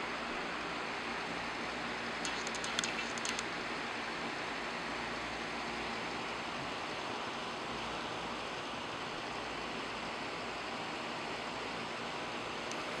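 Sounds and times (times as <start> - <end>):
steady room noise hiss: 0.0 - 13.0.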